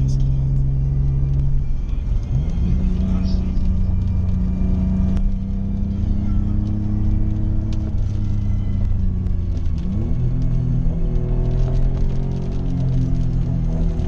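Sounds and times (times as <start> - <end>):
car engine heard from cabin: 0.0 - 14.0
tyre and road noise: 0.0 - 14.0.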